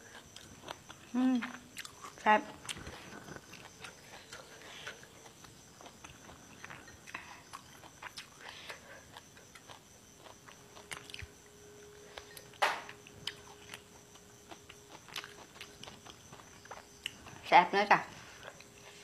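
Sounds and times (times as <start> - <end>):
chewing leafy vegetables: 0.0 - 19.0.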